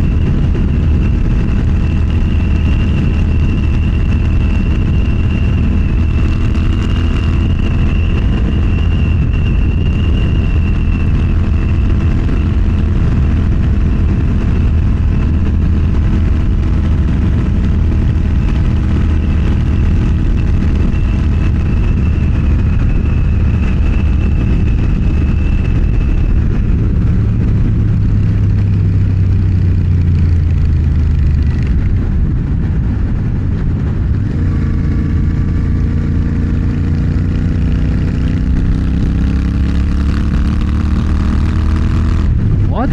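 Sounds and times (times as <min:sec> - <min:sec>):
motorcycle engine cruising: 0:00.0 - 0:42.9
wind and road noise: 0:00.0 - 0:42.9.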